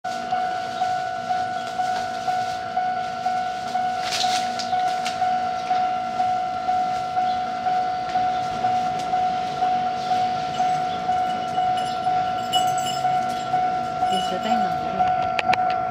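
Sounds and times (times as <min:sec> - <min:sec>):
level crossing warning bell: 0:00.0 - 0:15.9.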